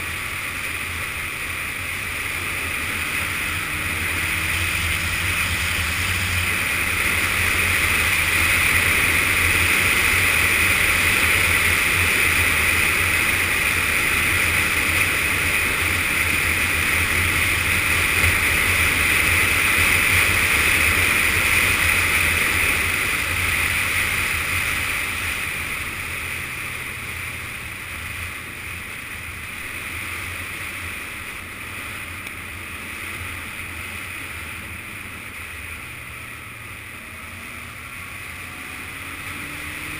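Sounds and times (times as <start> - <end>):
motorcycle engine running at speed: 0.0 - 39.9
wind rush on camera: 0.0 - 39.9.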